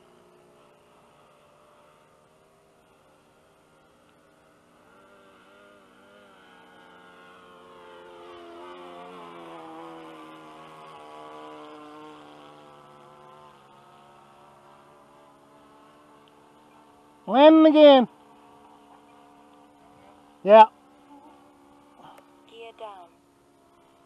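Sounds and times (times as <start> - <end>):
model airplane motor passing: 0.0 - 24.0.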